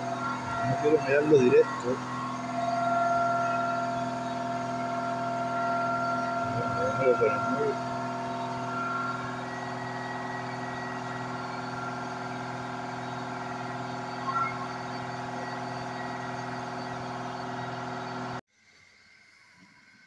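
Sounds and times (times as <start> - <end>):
laser engraver fan and motor hum: 0.0 - 18.4.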